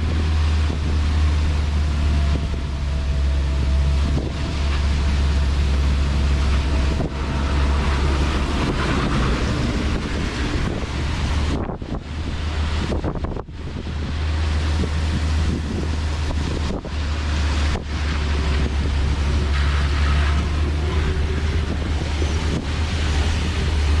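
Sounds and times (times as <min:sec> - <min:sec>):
car and road rumble: 0:00.0 - 0:24.0
wind buffeting microphone: 0:00.0 - 0:24.0.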